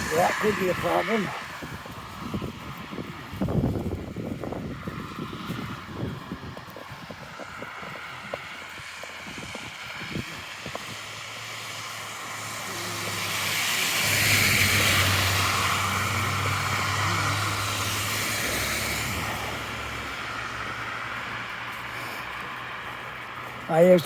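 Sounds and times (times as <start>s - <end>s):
vehicle driving past: 0.0s - 23.5s.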